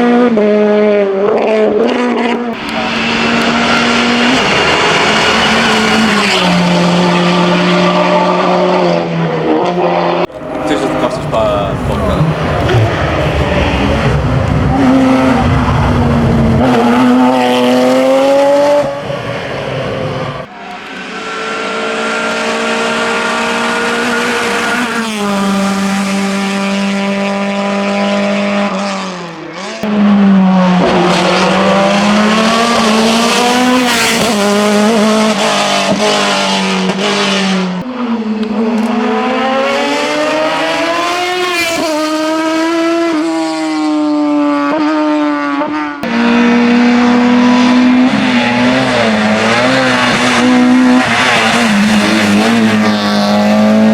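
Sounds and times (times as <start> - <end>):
race car engine at high revs: 0.0 - 53.9.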